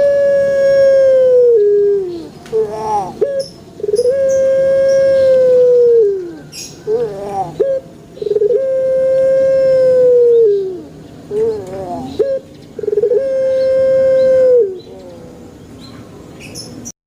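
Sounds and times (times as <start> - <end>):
dove cooing: 0.0 - 15.6.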